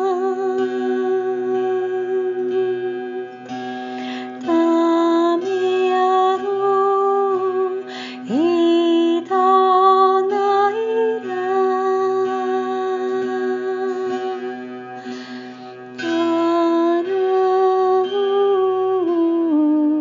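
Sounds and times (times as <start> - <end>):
woman singing wordlessly: 0.0 - 15.0, 15.9 - 20.0.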